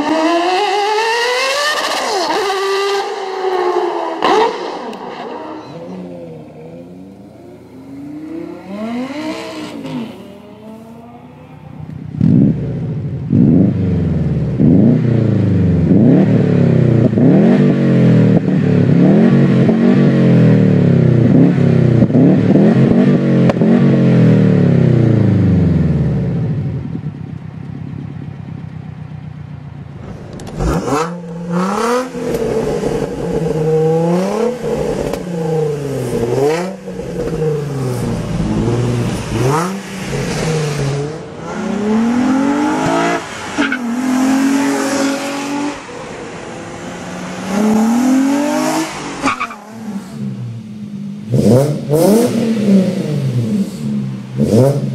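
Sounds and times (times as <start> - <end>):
car engine blipping revs: 0.0 - 26.5, 30.0 - 54.9
car engine accelerating hard: 0.0 - 27.4, 29.9 - 54.9.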